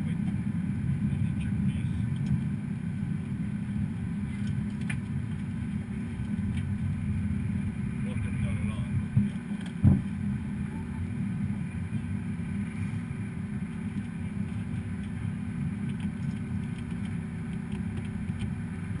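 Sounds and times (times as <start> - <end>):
aircraft cockpit low rumble: 0.0 - 19.0.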